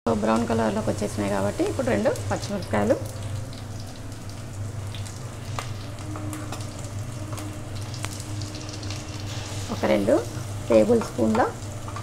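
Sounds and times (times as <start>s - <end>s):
onions sizzling in hot oil: 0.1s - 12.0s.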